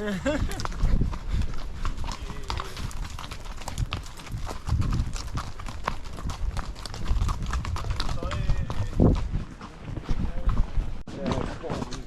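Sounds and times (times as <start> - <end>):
horse hooves clip-clopping: 0.1 - 12.0.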